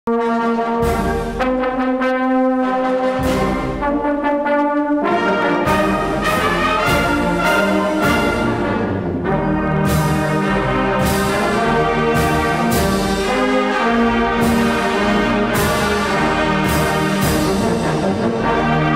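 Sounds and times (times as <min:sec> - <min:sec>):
brass band playing chords: 0:00.1 - 0:18.9.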